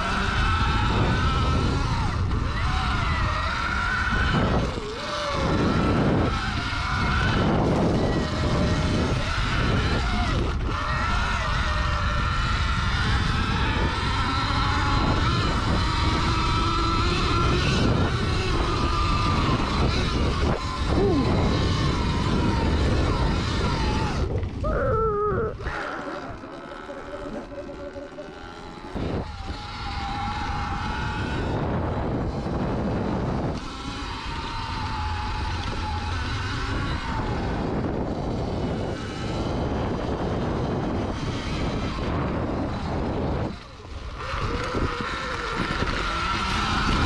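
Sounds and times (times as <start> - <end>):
electric motor whine: 0.0 - 47.0
wind rumble: 0.0 - 47.0.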